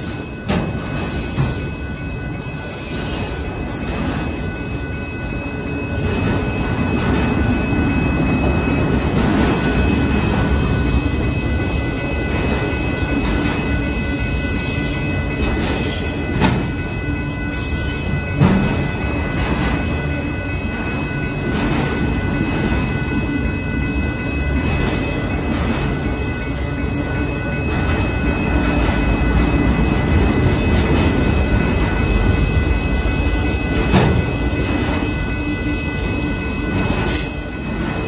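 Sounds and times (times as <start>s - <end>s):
train cars clanking: 0.0s - 38.0s
train wheels rumbling on rail: 0.0s - 38.0s.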